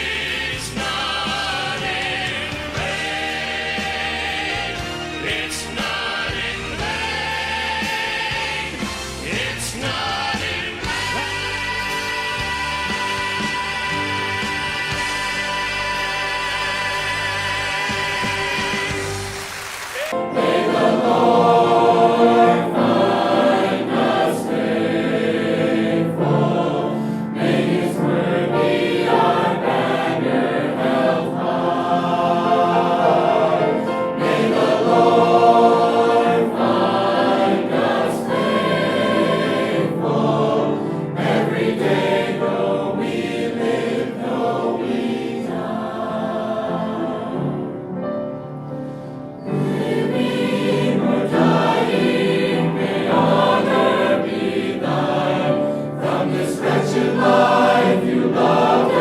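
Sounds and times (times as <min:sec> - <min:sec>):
choir singing gospel: 0:00.0 - 0:59.0.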